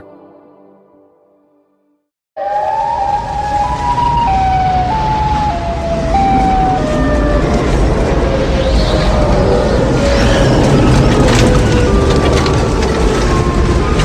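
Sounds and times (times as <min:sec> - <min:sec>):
warning siren wailing: 0:02.4 - 0:14.0
heavy rumbling noise: 0:02.6 - 0:14.0.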